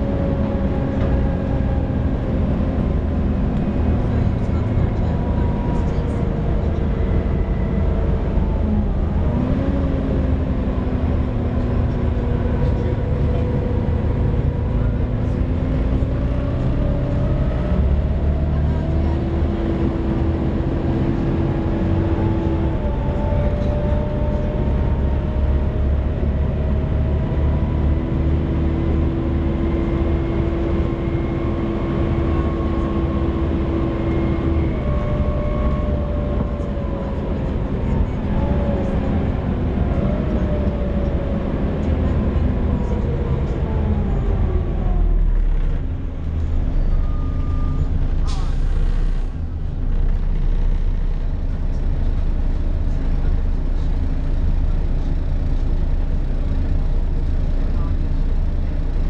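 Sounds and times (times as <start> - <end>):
diesel bus engine rumble: 0.0 - 59.0.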